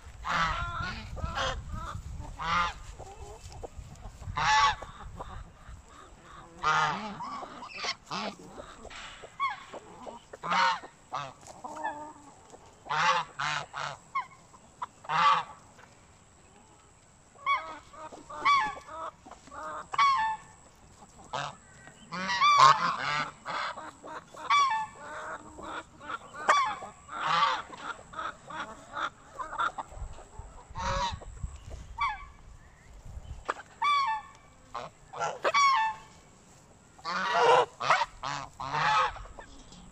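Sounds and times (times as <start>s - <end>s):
geese honking: 0.0s - 15.6s, 17.4s - 32.5s, 33.5s - 39.9s.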